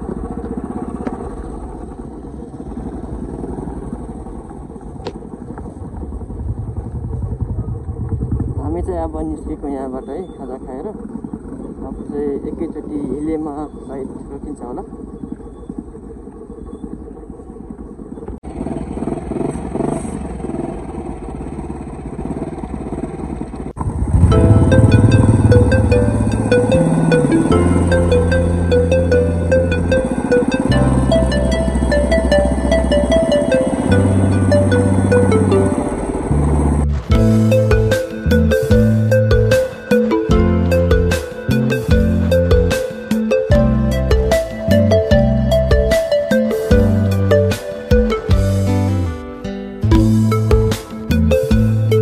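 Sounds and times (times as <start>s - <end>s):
motorcycle engine running: 0.0s - 13.1s, 14.9s - 52.0s.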